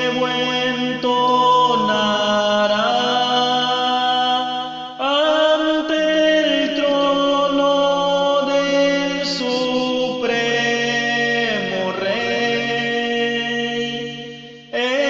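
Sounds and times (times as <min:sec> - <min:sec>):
slow hymn singing: 0:00.0 - 0:15.0.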